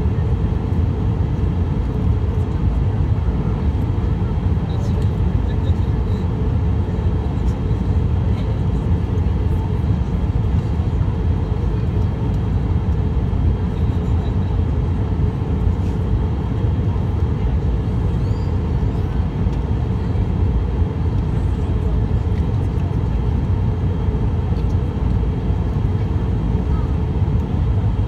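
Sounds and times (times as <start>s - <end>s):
jet engine and airflow roar: 0.0s - 28.0s.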